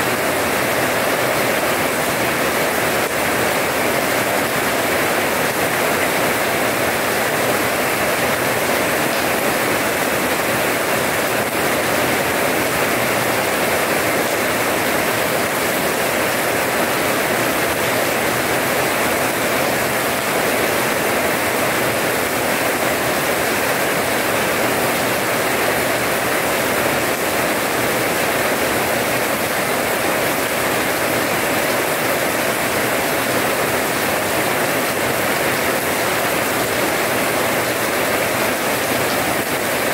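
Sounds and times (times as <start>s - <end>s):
rain on paving: 0.0s - 39.9s.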